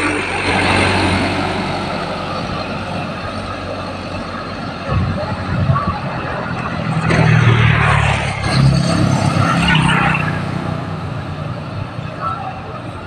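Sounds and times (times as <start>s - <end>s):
rushing noise: 0.0s - 13.0s.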